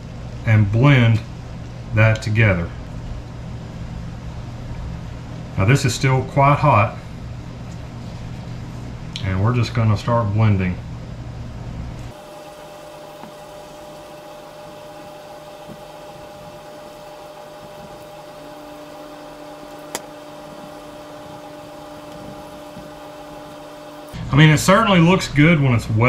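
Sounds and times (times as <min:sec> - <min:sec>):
machine hum with constant tones: 0:00.0 - 0:26.0.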